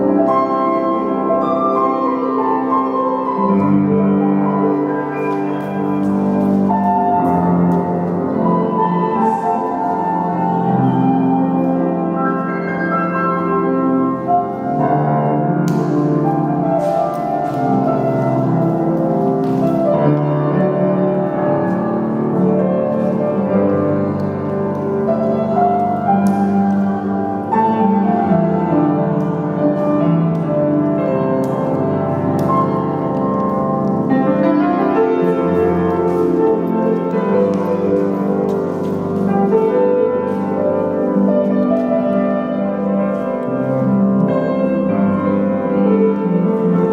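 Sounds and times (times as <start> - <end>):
classical piano music: 0.0 - 46.9.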